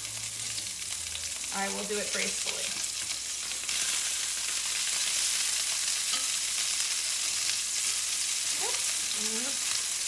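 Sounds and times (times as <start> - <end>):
meatballs sizzling in oil: 0.0 - 10.0
spatula turning food: 0.0 - 10.0.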